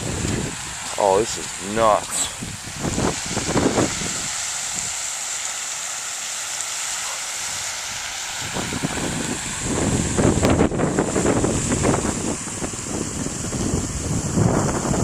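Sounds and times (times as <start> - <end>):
wind buffeting microphone: 0.0 - 5.0, 7.4 - 15.0
floodwater rushing: 0.0 - 15.0.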